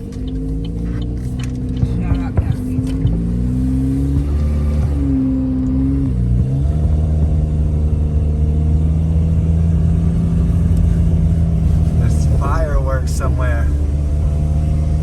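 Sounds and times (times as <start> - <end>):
car engine: 0.0 - 15.0
road noise inside car: 0.0 - 15.0.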